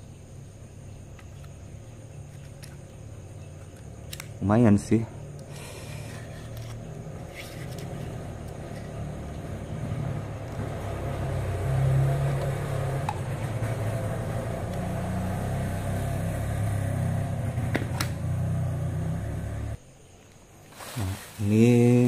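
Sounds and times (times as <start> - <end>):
low mechanical rumble: 0.0 - 19.8.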